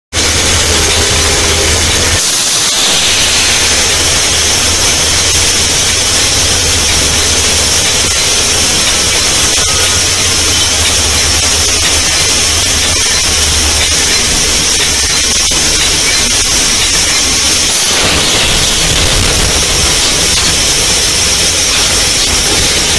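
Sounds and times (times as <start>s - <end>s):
locomotive engine rumble: 0.2s - 22.9s.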